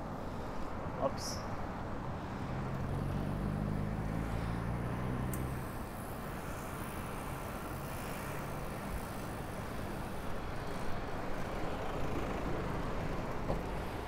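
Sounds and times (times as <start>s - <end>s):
road and wind noise: 0.0s - 14.0s
vehicle engine humming: 0.0s - 14.0s.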